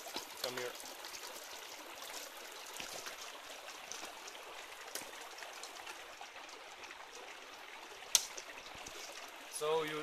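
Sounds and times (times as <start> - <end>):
stream trickling over stones: 0.0 - 10.0.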